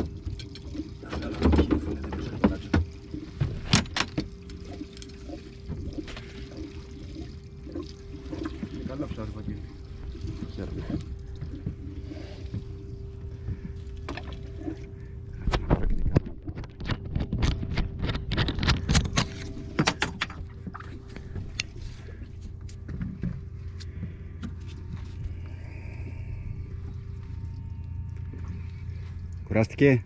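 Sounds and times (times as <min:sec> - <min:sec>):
boat motor humming: 0:00.0 - 0:30.0.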